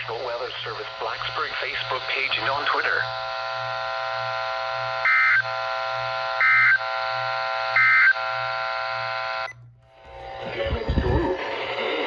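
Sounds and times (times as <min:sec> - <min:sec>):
electronic drone of held tones: 0:00.0 - 0:12.0.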